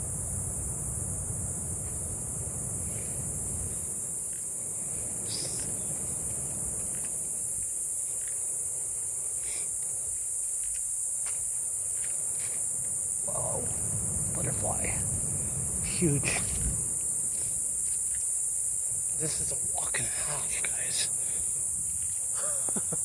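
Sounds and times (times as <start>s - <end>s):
insect chorus buzzing: 0.0s - 23.0s.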